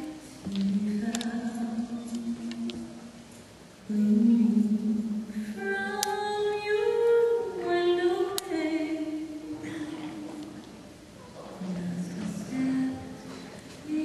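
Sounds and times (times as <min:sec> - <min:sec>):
slow music with singing voice: 0:00.0 - 0:14.0.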